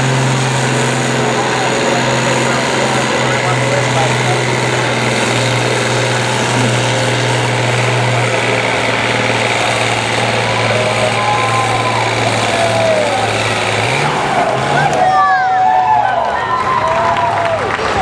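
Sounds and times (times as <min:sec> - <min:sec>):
diesel tractor engine under load: 0:00.0 - 0:18.0.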